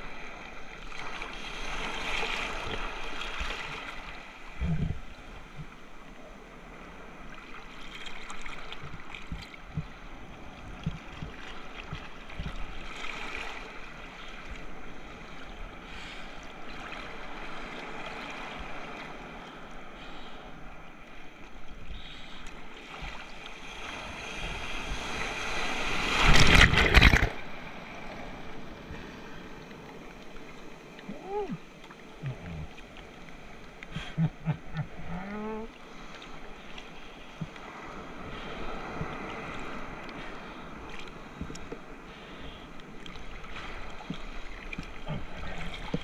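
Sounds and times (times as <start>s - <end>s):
ocean water sloshing and splashing: 0.0s - 46.0s
rush of water: 0.0s - 46.0s.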